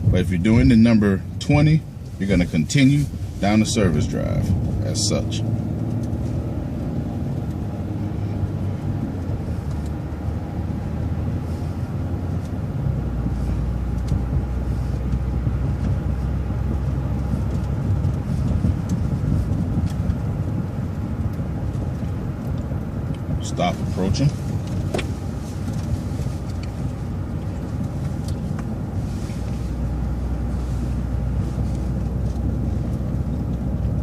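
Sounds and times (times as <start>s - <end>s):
bus engine drone: 0.0s - 34.0s
road noise: 0.0s - 34.0s.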